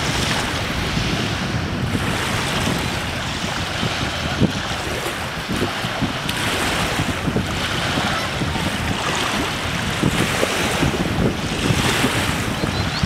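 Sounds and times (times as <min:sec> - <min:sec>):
small waves washing: 0:00.0 - 0:13.0
wind buffeting microphone: 0:00.0 - 0:13.0.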